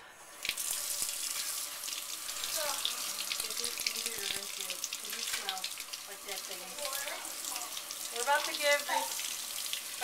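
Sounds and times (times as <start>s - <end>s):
faucet water running into sink: 0.1s - 10.0s.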